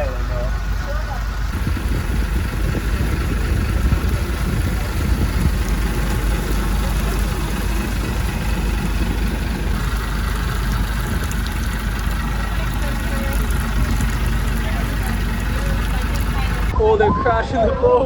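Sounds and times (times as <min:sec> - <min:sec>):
boat engine running: 0:00.0 - 0:16.8.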